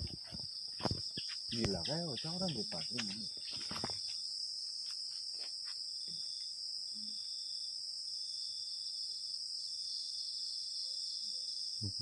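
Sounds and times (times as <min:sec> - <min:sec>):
crickets chirring: 0:00.0 - 0:12.0
faint insect trill: 0:00.0 - 0:12.0.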